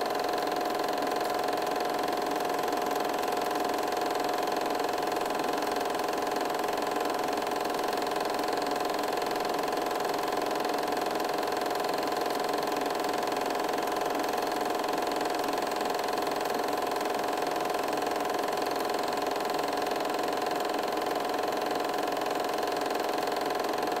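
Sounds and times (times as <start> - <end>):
film projector whirring: 0.0 - 24.0.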